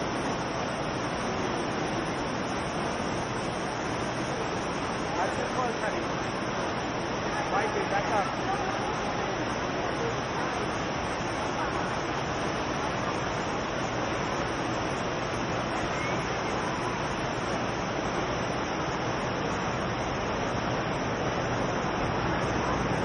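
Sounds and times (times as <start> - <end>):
fountain jets splashing: 0.0 - 23.0.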